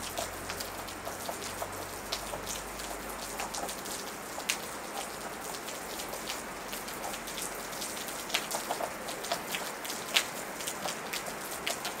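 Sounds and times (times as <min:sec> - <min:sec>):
raindrops hitting surface: 0:00.0 - 0:12.0
steady rain hiss: 0:00.0 - 0:12.0.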